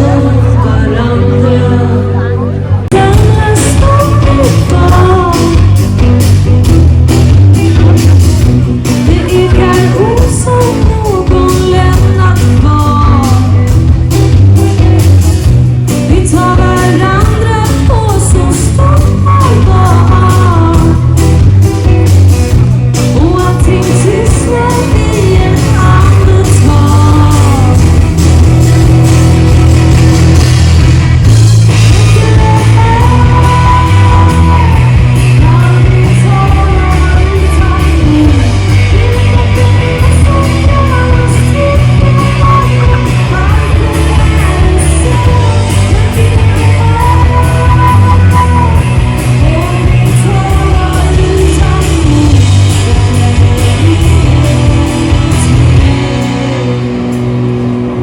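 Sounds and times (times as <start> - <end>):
person singing: 0.0 - 13.8, 14.5 - 21.9, 23.0 - 30.4, 31.5 - 58.0
heavy bass line: 0.0 - 58.0
loud rock music: 0.0 - 58.0.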